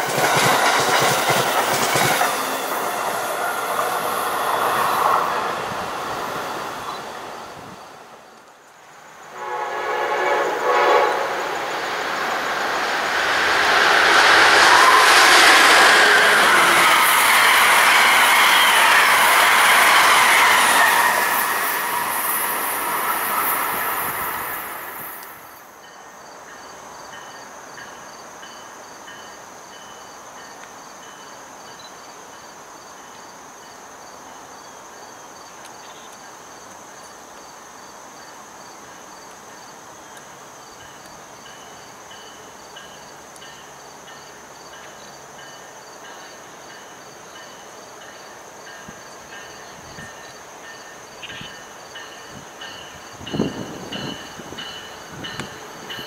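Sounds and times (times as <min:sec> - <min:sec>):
background hiss: 0:00.0 - 0:56.0
insects chirping: 0:00.0 - 0:56.0.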